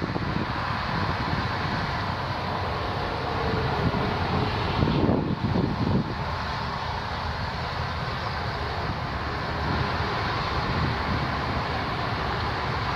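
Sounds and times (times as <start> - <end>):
jet engines rumbling: 0.0 - 12.9.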